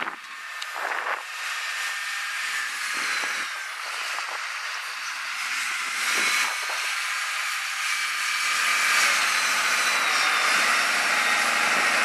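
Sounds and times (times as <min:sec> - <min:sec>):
faint engine hum: 0:00.0 - 0:12.0
snow clearing machine hiss: 0:01.5 - 0:12.0.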